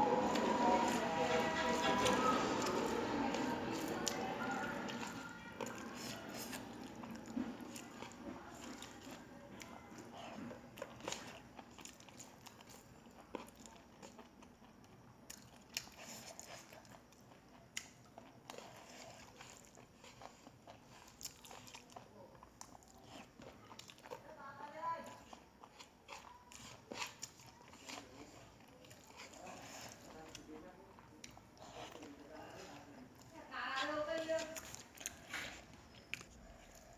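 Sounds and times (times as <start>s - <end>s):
person chewing crunchy food: 0.1s - 24.3s, 25.0s - 36.9s.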